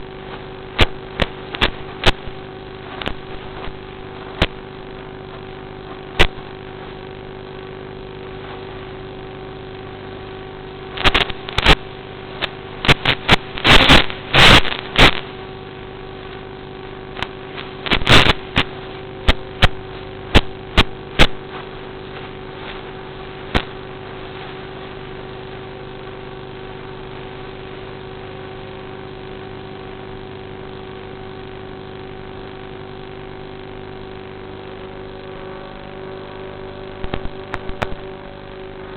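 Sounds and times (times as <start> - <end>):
sharp crackles and pops: 0.0 - 38.9.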